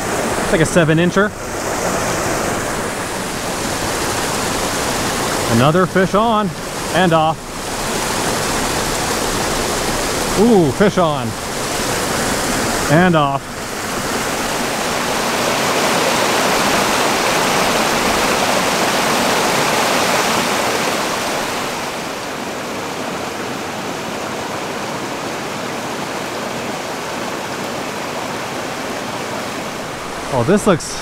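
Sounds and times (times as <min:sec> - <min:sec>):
creek splashing over rocks: 0:00.0 - 0:31.0.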